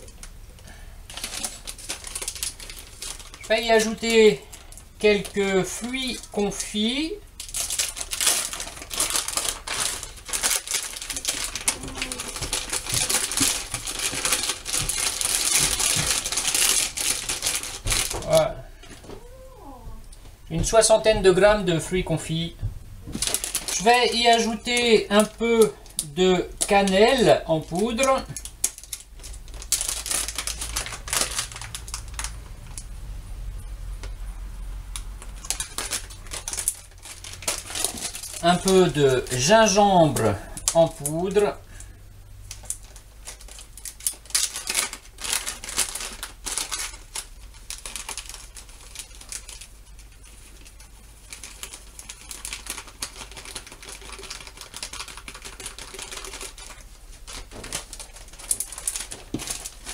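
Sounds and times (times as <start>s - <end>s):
plastic packet crinkling: 0.0s - 18.6s, 23.1s - 32.9s, 34.9s - 59.9s
low steady hum: 0.0s - 59.9s.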